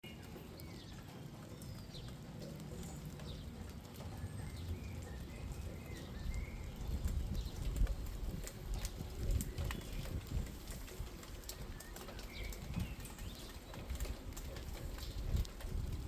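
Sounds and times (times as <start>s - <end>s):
light rain on plants: 0.0s - 16.0s
small birds chirping: 0.0s - 16.0s.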